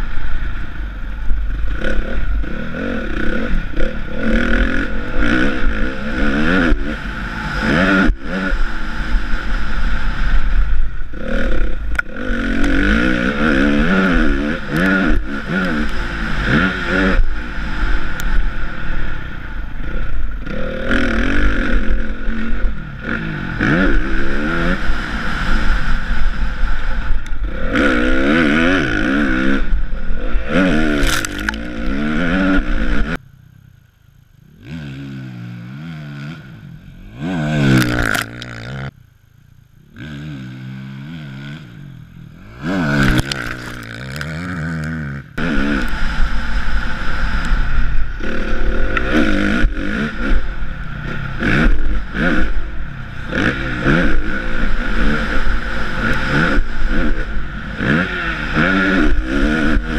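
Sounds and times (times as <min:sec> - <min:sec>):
motocross bike engine revving: 0:00.0 - 0:33.2, 0:34.3 - 0:59.9.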